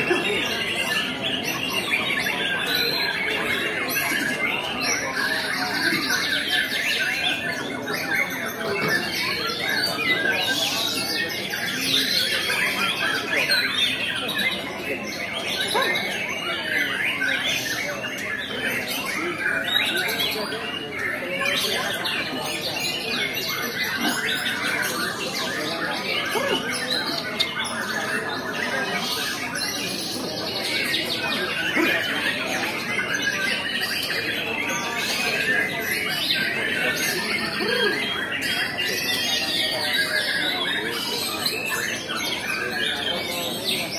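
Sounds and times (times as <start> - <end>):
chorus of songbirds singing: 0.0 - 43.9.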